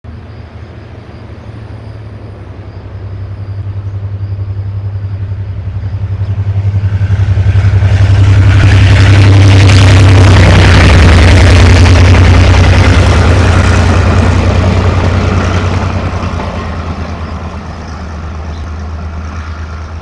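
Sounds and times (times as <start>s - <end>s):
locomotive engine hum: 0.0s - 20.0s
train wheels rushing on rails: 0.1s - 20.0s.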